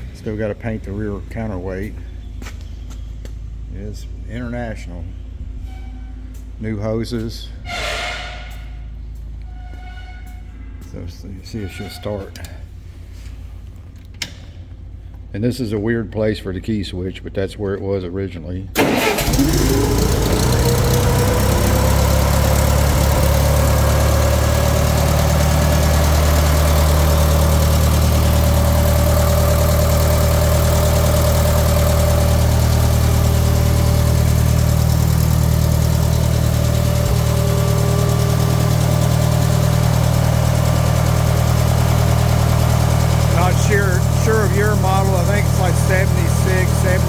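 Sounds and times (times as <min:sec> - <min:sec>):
gasoline engine idling: 0:00.0 - 0:07.8, 0:10.5 - 0:47.0.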